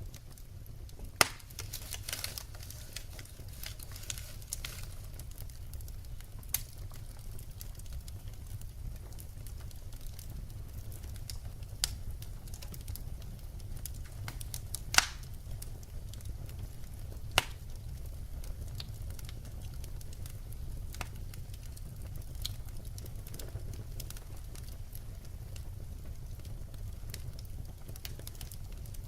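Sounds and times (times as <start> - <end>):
fire crackles and pops: 0.0 - 29.0
wood fire rumble: 0.0 - 29.0.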